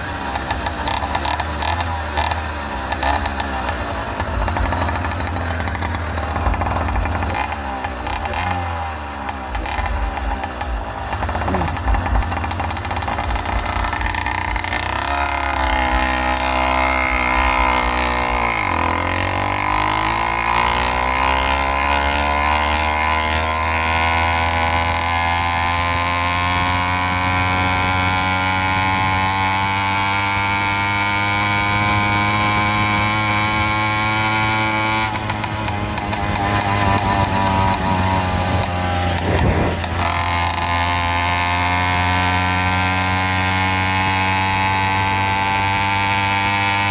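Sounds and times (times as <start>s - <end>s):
motorized bicycle engine running: 0.0s - 46.9s.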